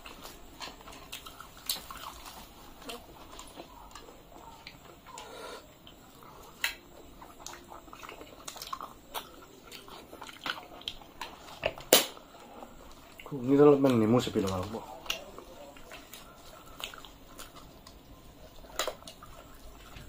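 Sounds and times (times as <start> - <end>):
people chewing: 0.0 - 20.0.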